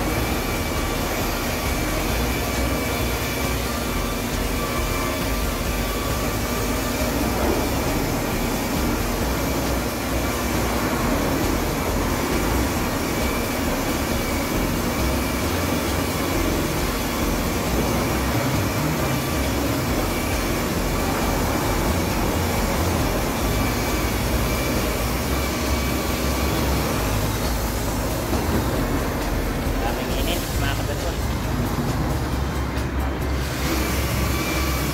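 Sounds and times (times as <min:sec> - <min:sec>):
electric polisher motor whine: 0:00.0 - 0:34.9
polishing pad rushing: 0:00.0 - 0:34.9.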